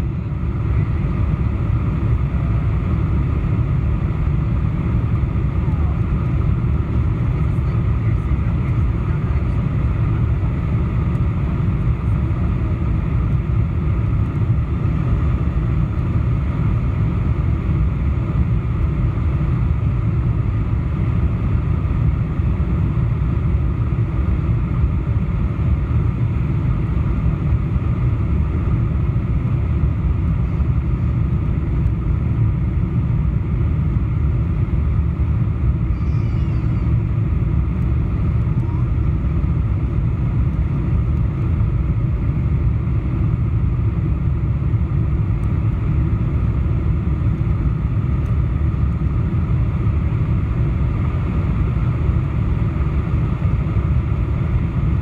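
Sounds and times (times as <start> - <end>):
airplane cabin roar: 0.0 - 55.0.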